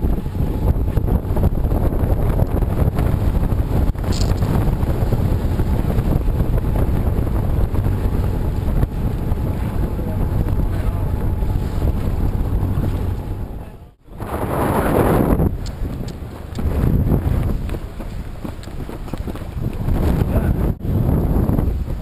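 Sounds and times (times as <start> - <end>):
water rushing along hull: 0.0 - 22.0
wind buffeting microphone: 0.0 - 22.0.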